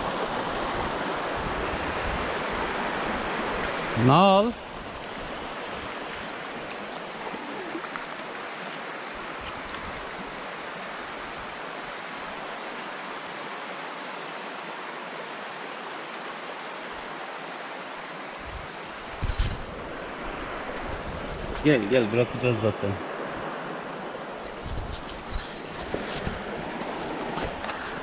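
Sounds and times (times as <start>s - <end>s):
stream running over stones: 0.0s - 28.0s.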